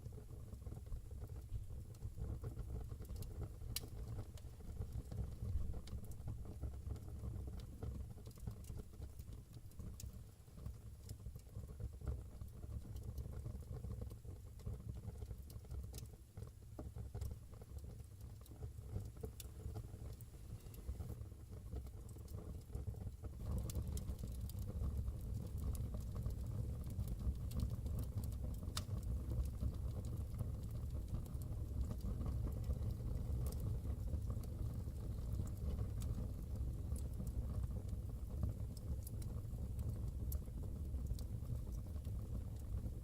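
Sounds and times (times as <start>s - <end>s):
burning wood crackling and popping: 0.0s - 43.0s
low rumble of flames: 0.0s - 43.0s.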